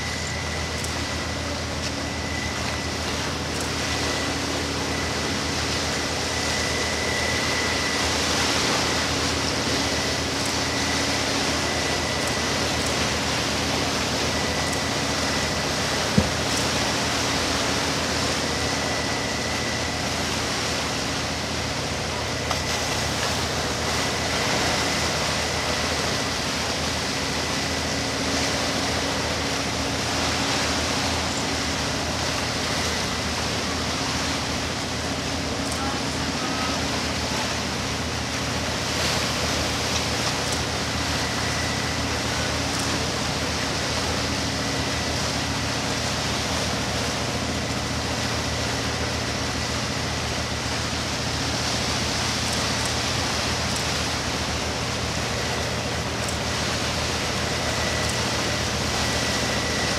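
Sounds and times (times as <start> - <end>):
faint steady whine: 0.0 - 59.9.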